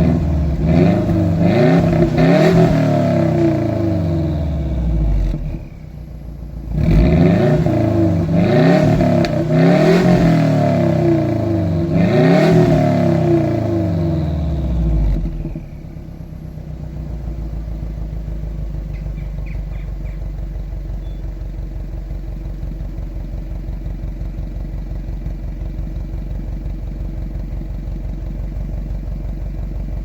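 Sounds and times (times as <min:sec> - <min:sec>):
car engine revving and idling: 0:00.0 - 0:30.0.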